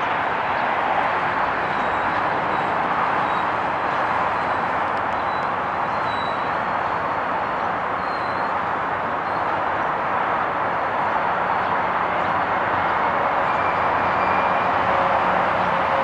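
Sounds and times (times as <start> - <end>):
distant train roar: 0.0 - 16.0.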